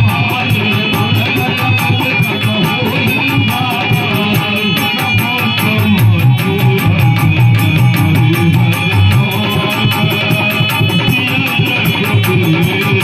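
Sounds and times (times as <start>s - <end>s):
hand drum playing fast rhythm: 0.0s - 13.0s.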